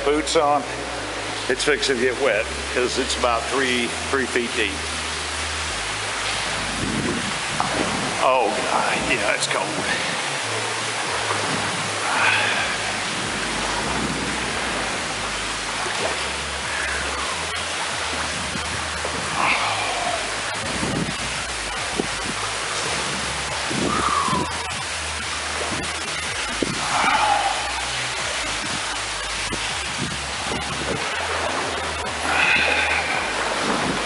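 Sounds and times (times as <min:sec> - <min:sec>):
steady hiss: 0:00.0 - 0:34.0
water sloshing from wading: 0:00.0 - 0:34.0.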